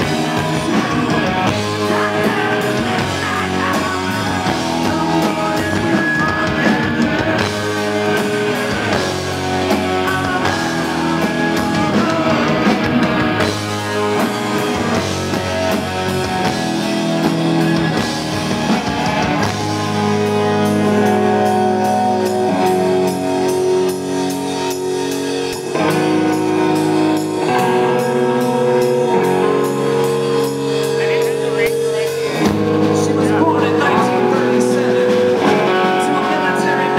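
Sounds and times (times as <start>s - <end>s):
drum kit: 0.0s - 36.9s
electric guitars: 0.0s - 36.9s.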